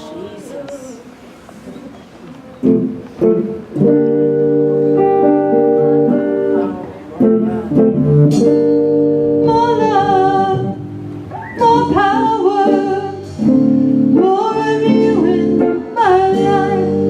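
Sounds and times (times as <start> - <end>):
guitar strumming chords: 2.6 - 17.0.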